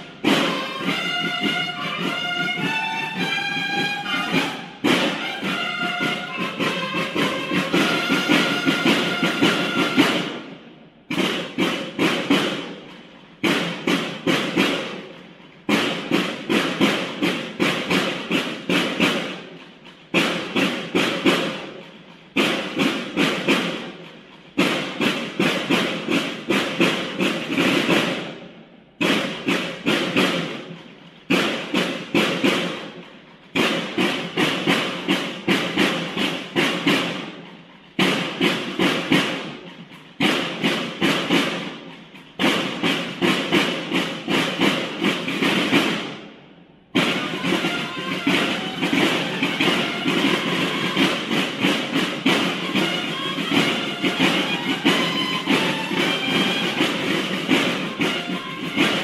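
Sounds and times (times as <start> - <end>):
bugles sounding: 0.0 - 46.1, 47.0 - 59.0
field drums playing march cadence: 0.0 - 59.0.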